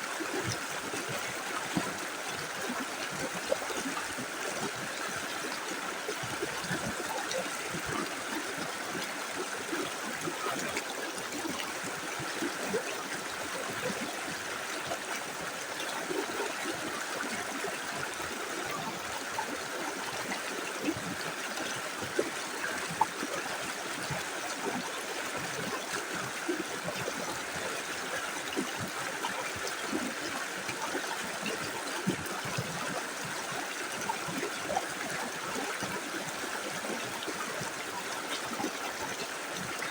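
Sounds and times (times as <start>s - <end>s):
river running over stones: 0.0s - 39.9s.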